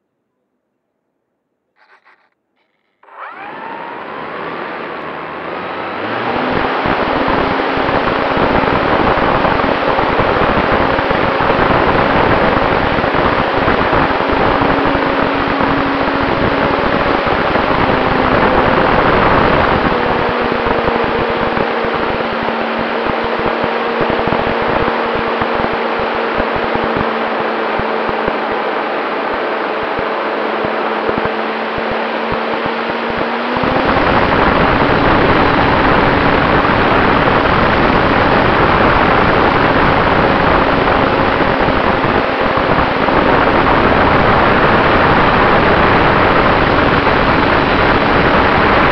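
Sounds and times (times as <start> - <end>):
model airplane motor and propeller: 1.8 - 48.9
wind rush on microphone: 5.4 - 48.9.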